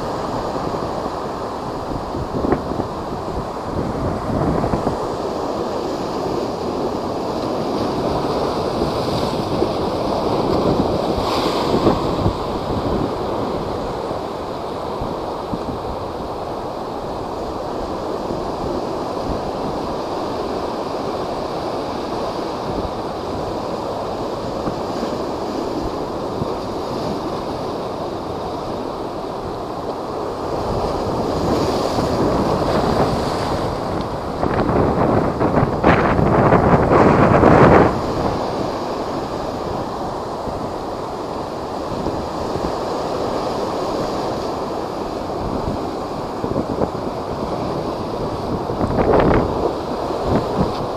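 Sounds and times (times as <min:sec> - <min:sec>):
storm waves crashing: 0:00.0 - 0:50.9
wind buffeting microphone: 0:00.0 - 0:50.9.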